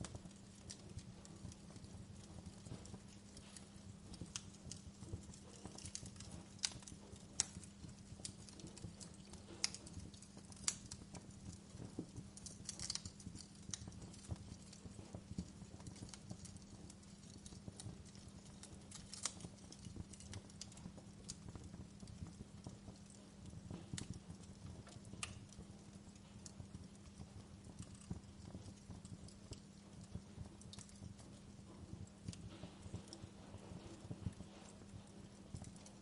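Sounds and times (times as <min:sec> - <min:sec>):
faint steady hum: 0:00.0 - 0:36.0
fire crackling: 0:00.0 - 0:36.0.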